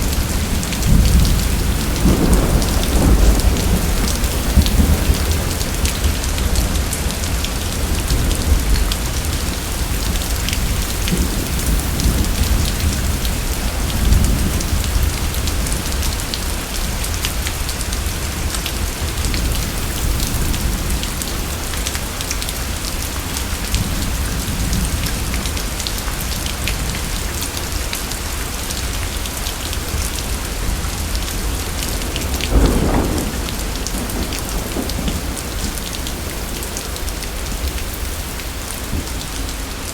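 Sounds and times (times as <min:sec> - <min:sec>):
thunder rumbling: 0:00.0 - 0:27.0, 0:29.7 - 0:39.7
heavy rain: 0:00.0 - 0:39.9.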